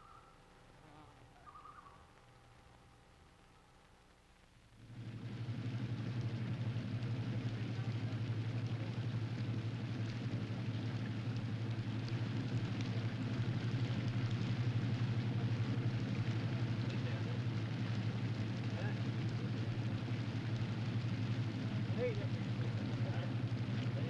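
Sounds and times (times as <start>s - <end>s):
boat engine humming: 0.0s - 24.0s
rough water wash with crackles: 0.0s - 24.0s.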